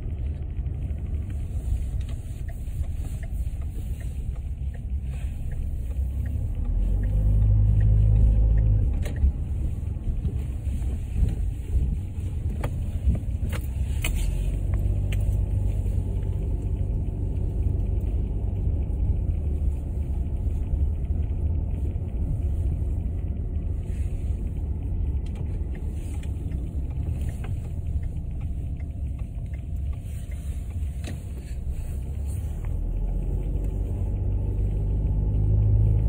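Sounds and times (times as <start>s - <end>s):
car driving slowly rumble: 0.0s - 36.0s.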